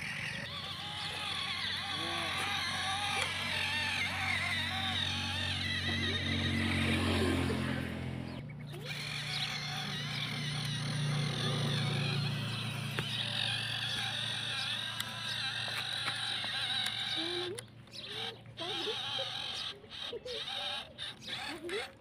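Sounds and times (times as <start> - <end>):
toy tractor drone: 0.0 - 22.0.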